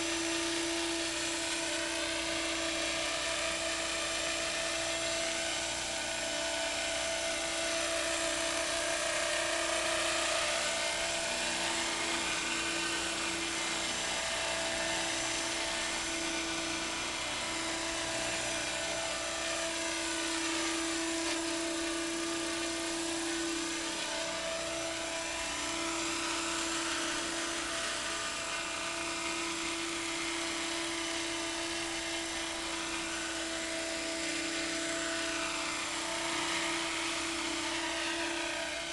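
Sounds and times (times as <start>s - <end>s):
model helicopter whine: 0.0s - 38.9s.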